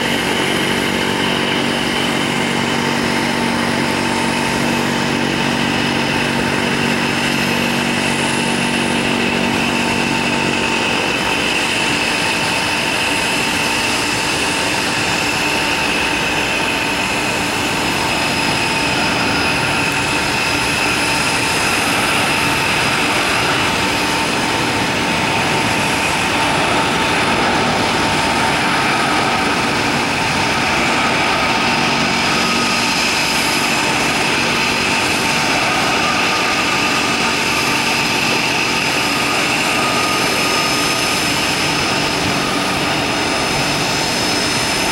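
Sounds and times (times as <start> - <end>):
jet engines whining: 0.0 - 44.9.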